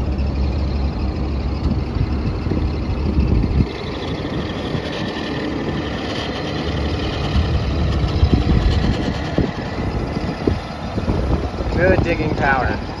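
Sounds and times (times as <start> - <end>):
excavator diesel engine: 0.0 - 13.0.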